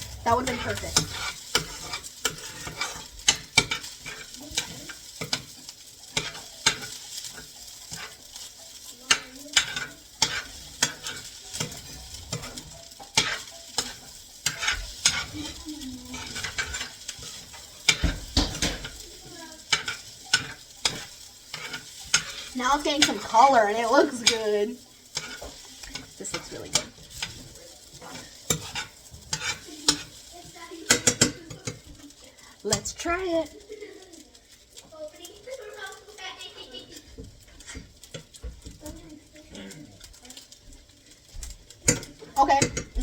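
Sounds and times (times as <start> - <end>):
fried rice sizzling in a pan: 0.0 - 43.0
spatula scraping a pan: 0.0 - 43.0.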